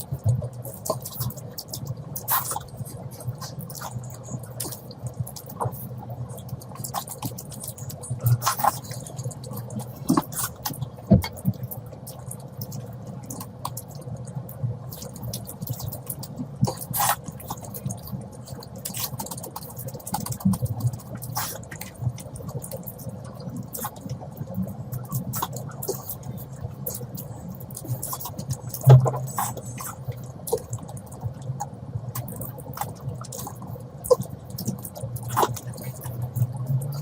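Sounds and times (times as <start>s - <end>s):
wet chewing and mouth smacks: 0.0s - 37.0s.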